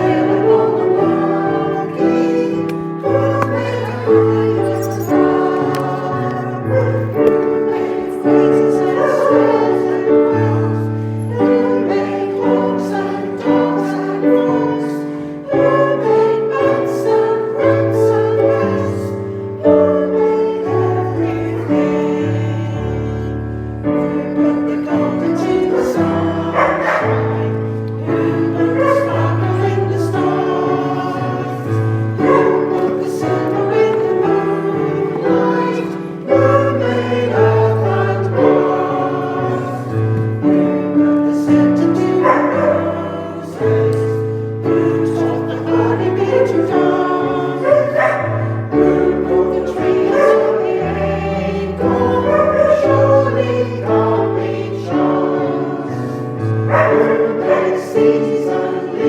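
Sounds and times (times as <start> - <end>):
choir singing a hymn: 0.0 - 59.0
instrumental accompaniment: 0.0 - 59.0.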